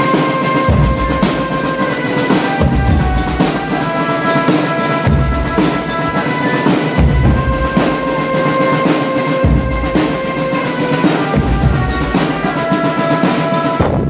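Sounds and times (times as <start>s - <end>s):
held melody notes: 0.0s - 13.8s
snare drum strokes: 0.0s - 14.0s.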